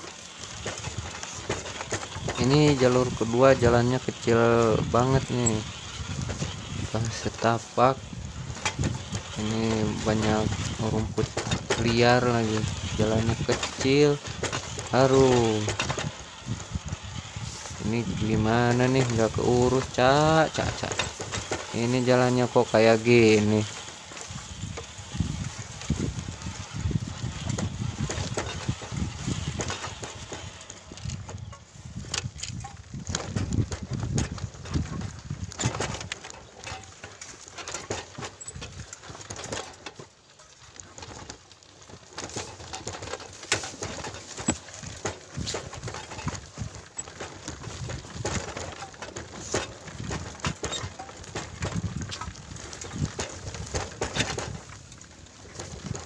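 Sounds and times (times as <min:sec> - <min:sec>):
motorcycle rumbling: 0:00.0 - 0:56.0.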